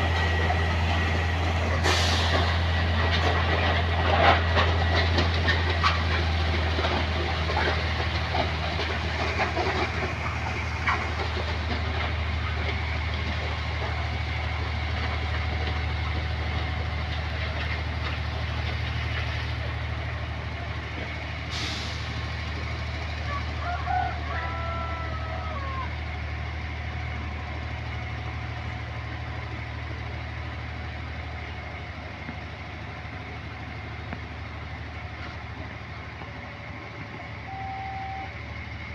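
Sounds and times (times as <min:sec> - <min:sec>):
diesel locomotive engine droning: 0:00.0 - 0:38.9.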